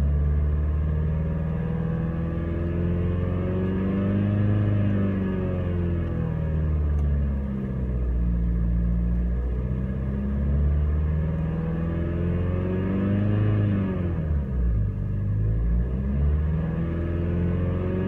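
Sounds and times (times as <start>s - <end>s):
strange engine sound: 0.0s - 18.0s.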